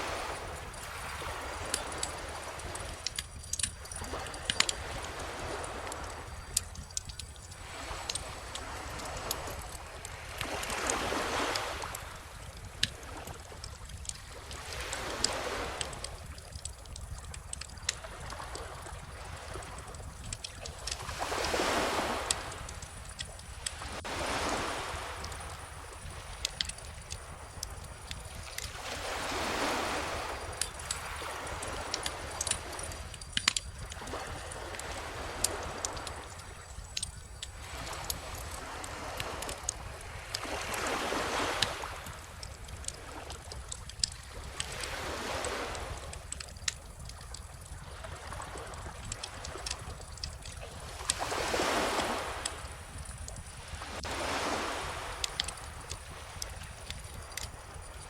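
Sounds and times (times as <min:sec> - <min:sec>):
calm ocean waves washing in: 0:00.0 - 0:58.0
wood fire crackling: 0:00.2 - 0:10.9, 0:11.5 - 0:21.5, 0:22.2 - 0:29.2, 0:30.1 - 0:40.1, 0:42.0 - 0:44.9, 0:45.8 - 0:51.2, 0:52.4 - 0:54.1, 0:55.2 - 0:58.0.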